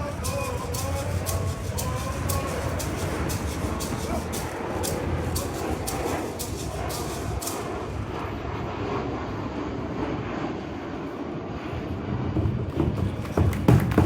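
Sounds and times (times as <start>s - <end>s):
airplane flying overhead: 0.0s - 14.0s.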